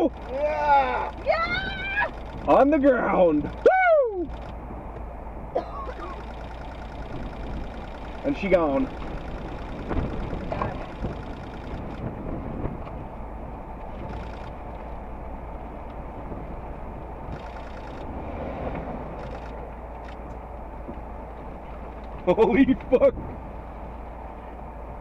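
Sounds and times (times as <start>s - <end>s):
vehicle cabin rumble: 0.0s - 25.0s.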